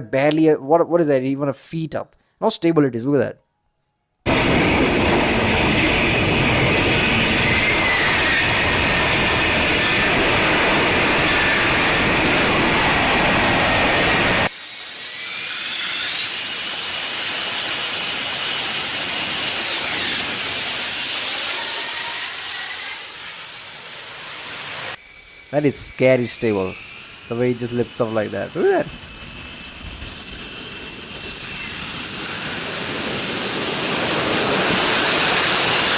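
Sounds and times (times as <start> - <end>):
jet engine rush with high whine: 4.3 - 35.9
jet whine sliding in pitch: 4.3 - 35.9.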